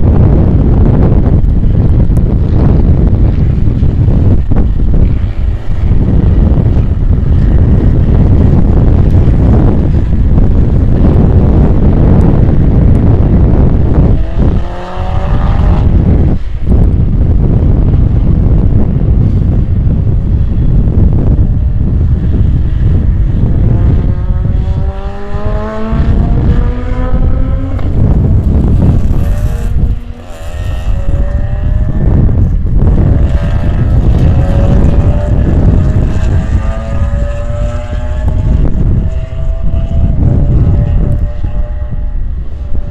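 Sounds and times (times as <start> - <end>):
wind buffeting microphone: 0.0 - 42.9
car engines accelerating: 0.3 - 16.6, 21.4 - 42.9.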